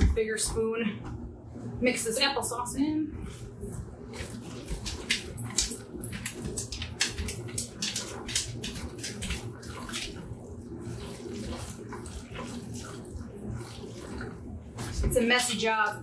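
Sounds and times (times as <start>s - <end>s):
oatmeal squelching and scraping in bowl: 3.1s - 16.0s.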